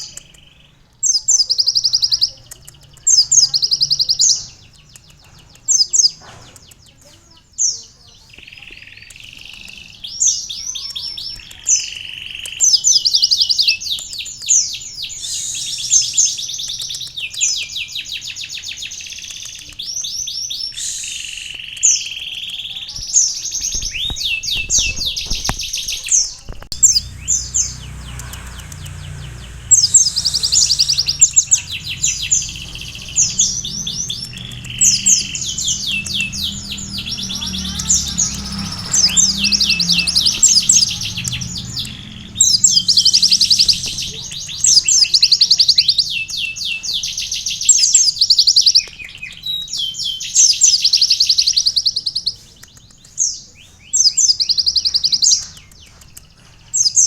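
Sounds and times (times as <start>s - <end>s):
sunbird singing rapid trills: 0.0s - 57.0s.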